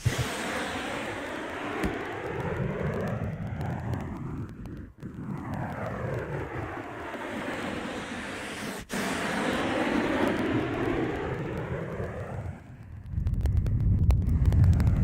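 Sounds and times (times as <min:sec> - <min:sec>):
aircraft passing overhead: 0:00.5 - 0:12.8.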